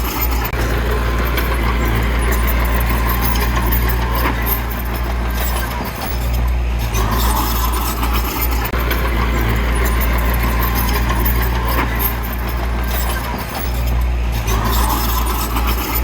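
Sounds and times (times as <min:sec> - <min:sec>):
heavy diesel machinery engine drone: 0:00.0 - 0:16.0.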